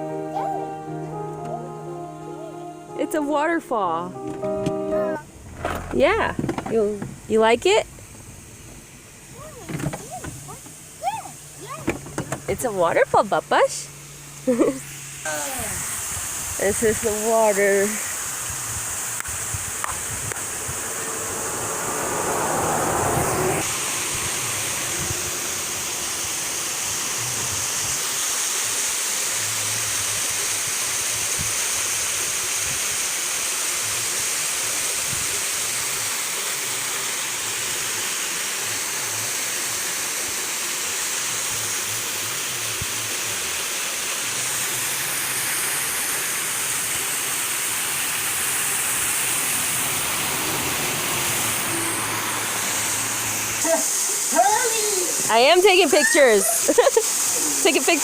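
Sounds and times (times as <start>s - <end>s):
waterfall roaring: 5.2s - 58.0s.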